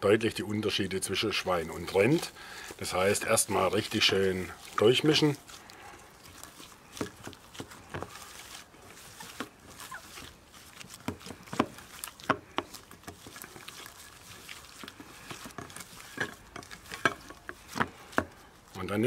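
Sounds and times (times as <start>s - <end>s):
hands kneading minced meat: 0.0s - 19.0s
meat smacking against bowl: 1.3s - 18.8s.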